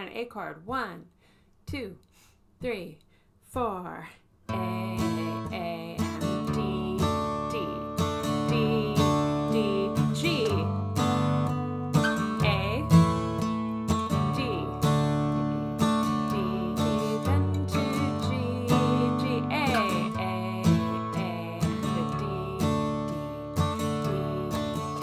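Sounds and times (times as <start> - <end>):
acoustic guitar strumming: 4.5 - 25.0.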